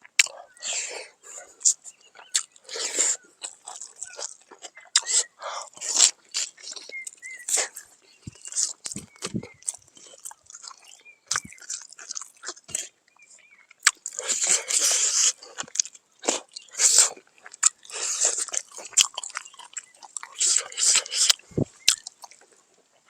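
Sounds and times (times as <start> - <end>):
person chewing crunchy food: 0.0 - 23.0.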